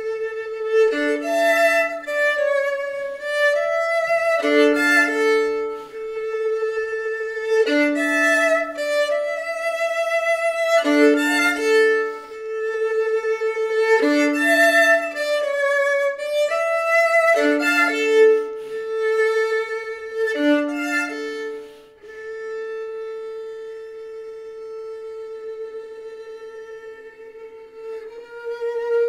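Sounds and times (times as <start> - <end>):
bowed solo violin: 0.0 - 29.0.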